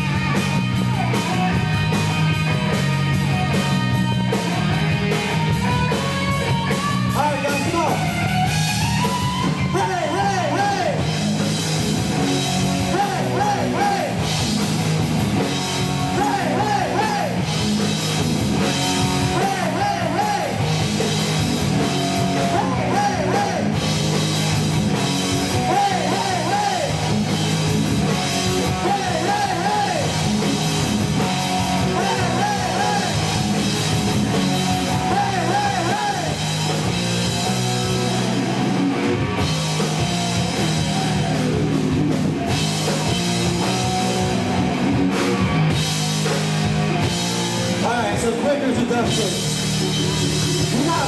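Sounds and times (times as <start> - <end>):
live rock band playing loudly: 0.0 - 51.0.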